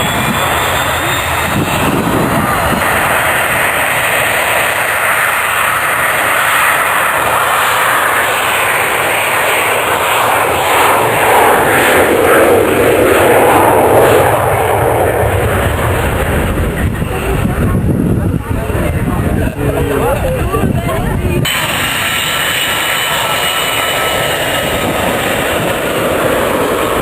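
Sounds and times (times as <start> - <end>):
aircraft flying past: 0.0 - 27.0.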